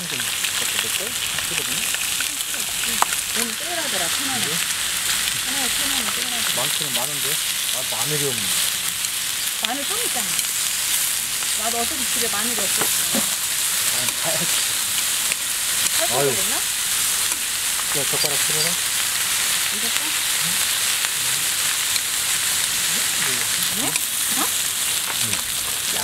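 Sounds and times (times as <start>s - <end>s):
meat sizzling on griddle: 0.0s - 26.0s
metal tongs turning meat: 0.1s - 26.0s.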